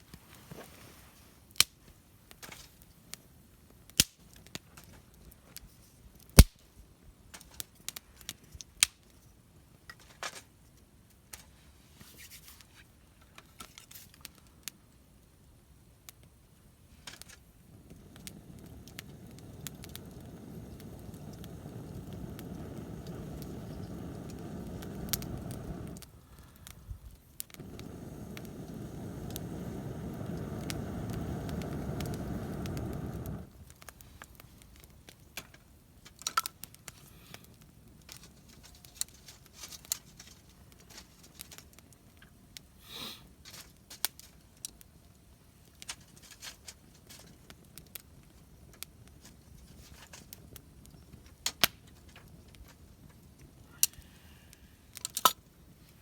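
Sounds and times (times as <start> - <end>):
campfire wood cracking: 1.5 - 6.6, 7.3 - 9.2, 13.2 - 15.4, 16.0 - 56.0.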